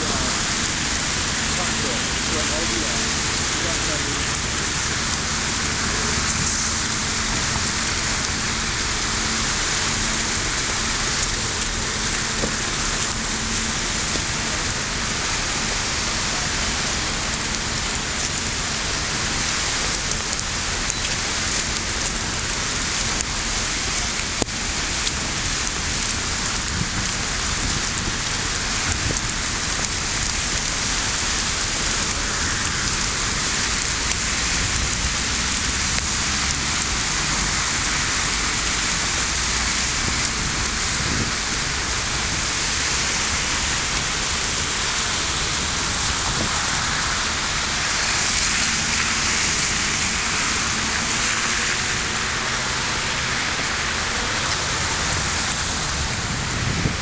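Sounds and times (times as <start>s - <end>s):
snowstorm hiss: 0.0s - 57.0s.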